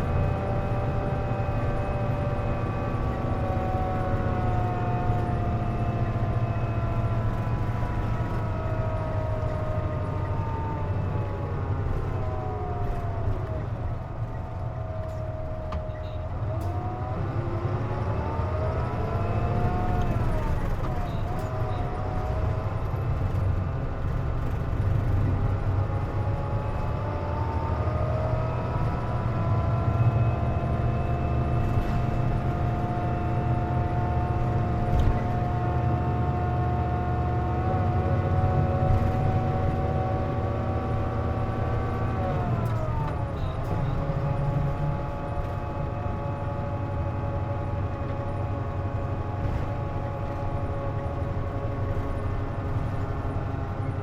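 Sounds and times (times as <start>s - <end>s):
bus engine whine: 0.0s - 54.0s
constant low rumble: 0.0s - 54.0s.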